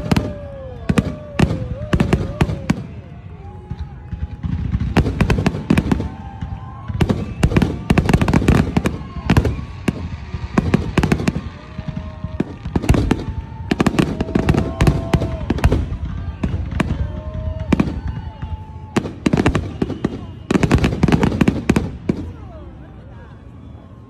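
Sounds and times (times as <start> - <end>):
fireworks bursting: 0.0 - 22.5.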